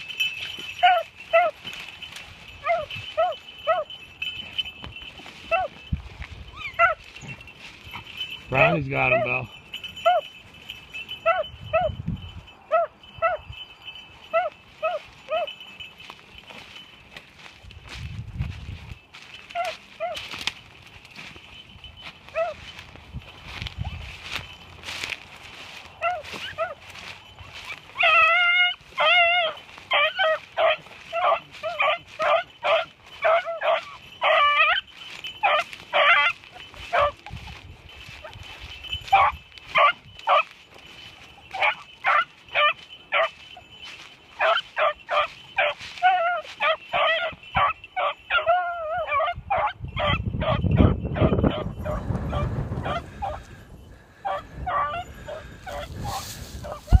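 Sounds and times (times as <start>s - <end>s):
hunting dogs baying: 0.0s - 17.6s, 19.1s - 57.0s.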